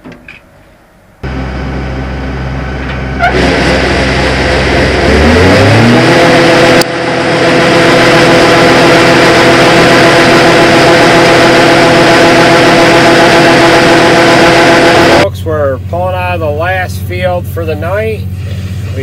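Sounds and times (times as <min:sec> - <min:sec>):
combine harvester engine: 0:01.2 - 0:19.0
loud steady mechanical run: 0:01.2 - 0:19.0.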